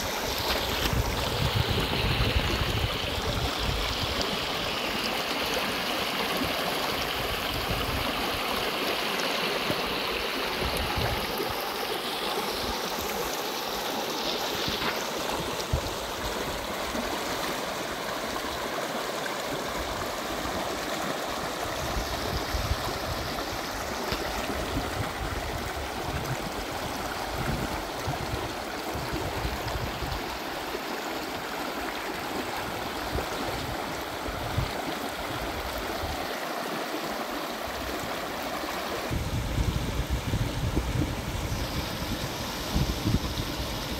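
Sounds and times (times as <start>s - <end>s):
flowing water rushing: 0.0s - 43.9s.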